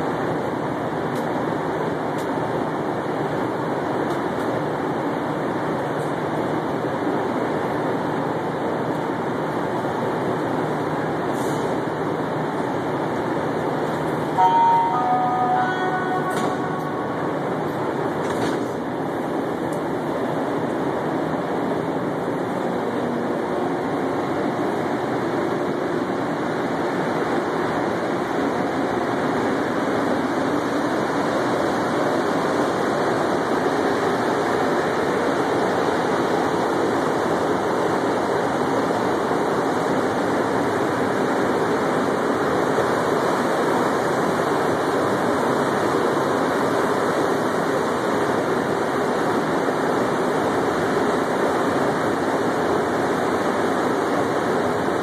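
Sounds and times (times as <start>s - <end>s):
metro car rumble in tunnel: 0.0s - 55.0s.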